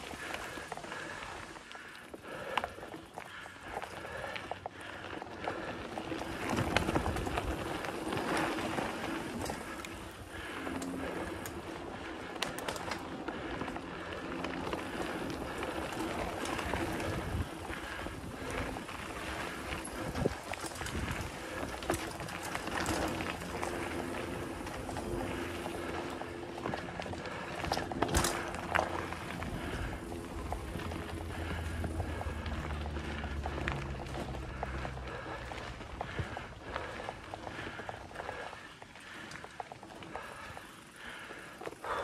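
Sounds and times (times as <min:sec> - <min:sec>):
bike rattling over bumps: 0:00.0 - 0:42.0
bike tyres on dirt: 0:00.0 - 0:42.0.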